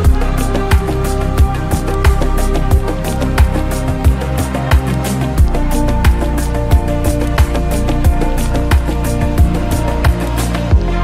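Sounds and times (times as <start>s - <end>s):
low kick drum beat: 0.0s - 11.0s.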